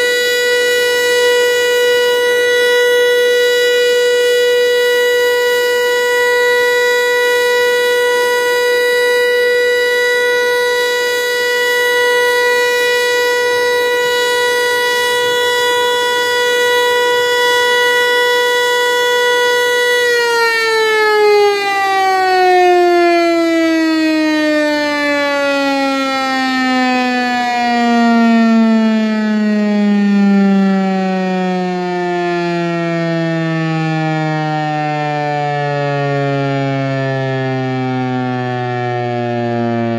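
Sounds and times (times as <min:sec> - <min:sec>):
warning siren winding down: 0:00.0 - 0:39.9.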